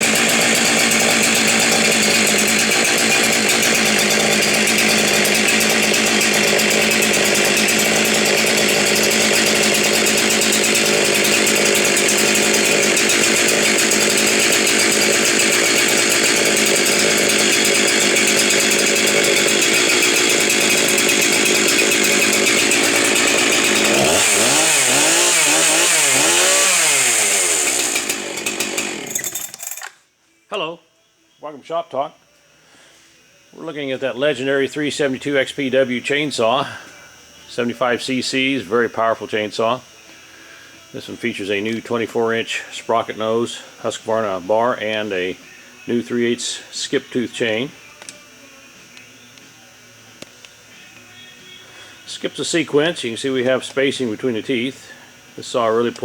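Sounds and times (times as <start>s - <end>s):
chainsaw engine running: 0.0s - 29.9s, 32.7s - 56.0s.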